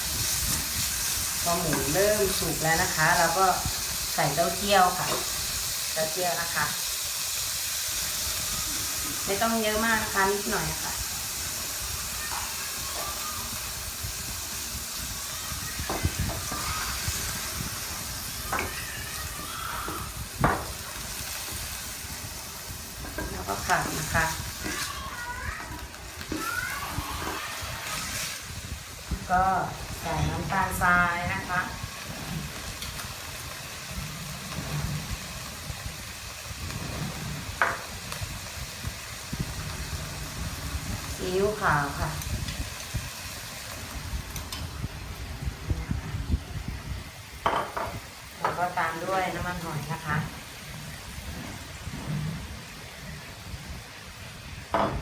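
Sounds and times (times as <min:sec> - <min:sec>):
meat sizzling in a frying pan: 0:00.0 - 0:55.0.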